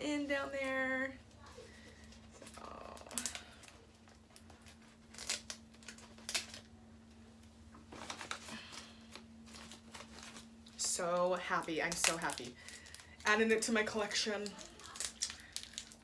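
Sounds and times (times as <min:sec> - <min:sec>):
faint steady hum: 0:00.0 - 0:16.0
paper and plastic wrapping crinkling: 0:01.4 - 0:16.0.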